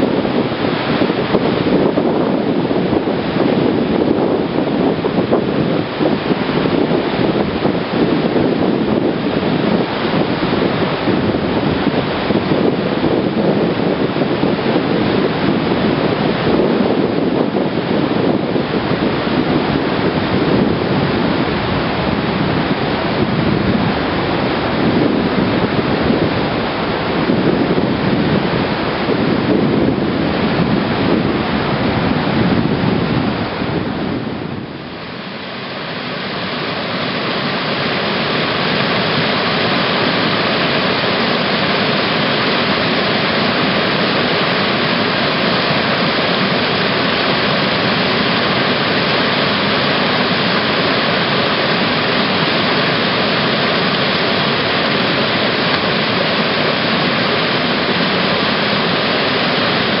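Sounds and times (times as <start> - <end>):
whitewater rushing: 0.0 - 60.0.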